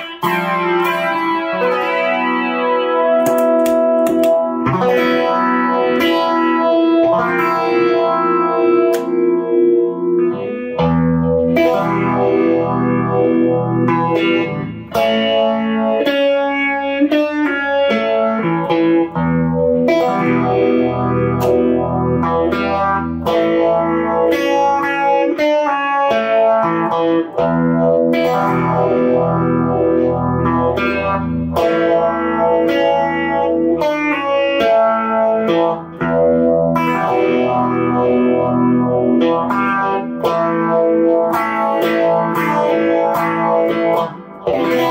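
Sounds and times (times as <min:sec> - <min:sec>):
overdriven electric guitar strumming: 0:00.0 - 0:44.9.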